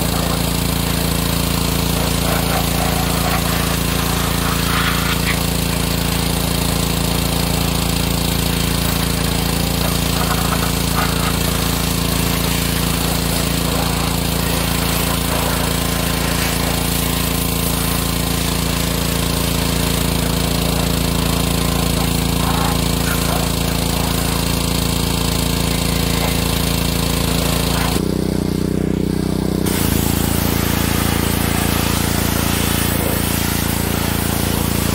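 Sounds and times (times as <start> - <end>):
high-pressure water jet hissing: 0.0 - 28.2, 29.2 - 34.9
pressure washer motor droning: 0.0 - 34.9.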